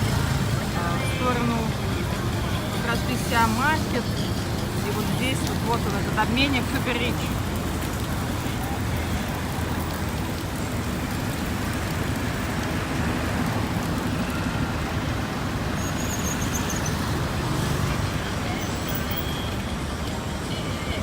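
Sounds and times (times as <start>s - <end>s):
city traffic passing cars: 0.0s - 21.0s.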